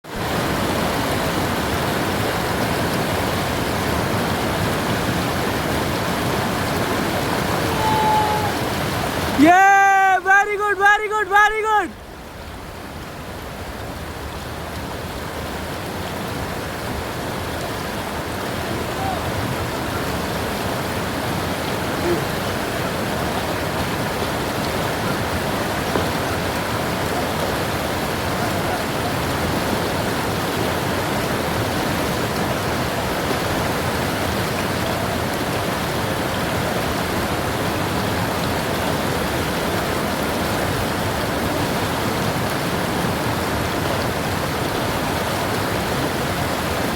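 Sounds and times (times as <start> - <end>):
rush of moving water: 0.0 - 46.9.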